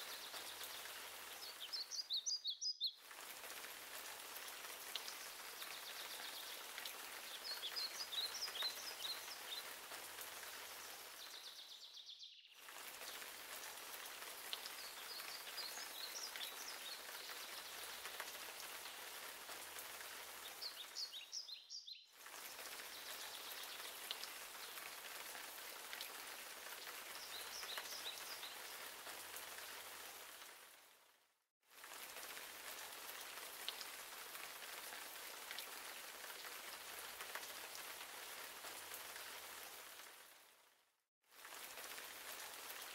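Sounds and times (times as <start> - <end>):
steady rain falling: 0.0 - 11.9, 12.6 - 42.9.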